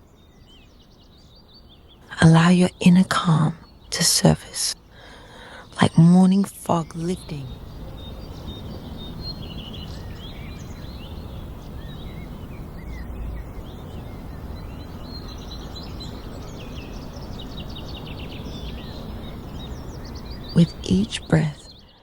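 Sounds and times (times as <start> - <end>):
birds chirping and calling: 0.6 - 22.0
low background rumble: 1.0 - 22.0.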